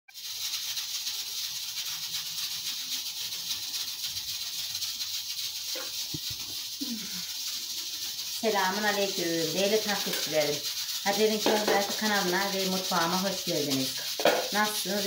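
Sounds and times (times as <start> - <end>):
steady high hiss: 0.1 - 15.0.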